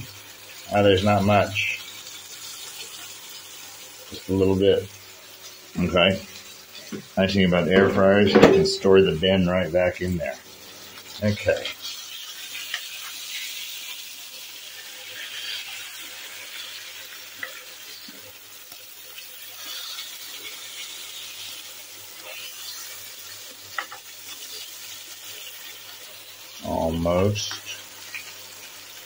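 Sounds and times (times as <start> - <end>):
steak sizzling in a frying pan: 0.0 - 29.0.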